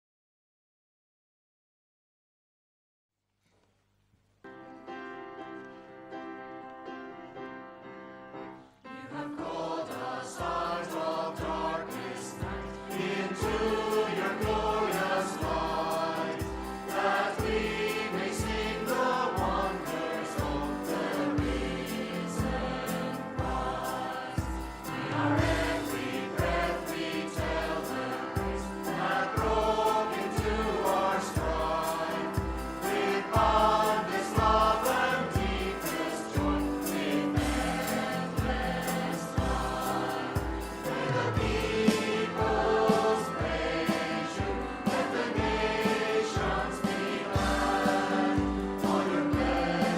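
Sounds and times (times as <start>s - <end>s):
group singing worship song: 8.9s - 49.9s
band playing: 9.6s - 49.9s.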